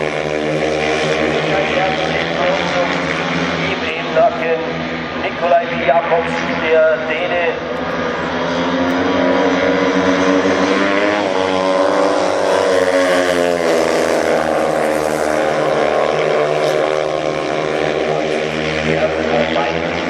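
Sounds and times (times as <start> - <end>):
motorcycles racing at full throttle: 0.0 - 20.0.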